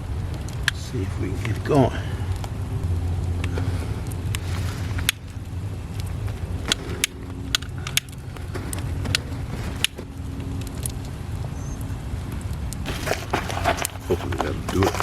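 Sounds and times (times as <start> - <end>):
campfire crackling: 0.0 - 15.0
steady low hum: 0.0 - 15.0.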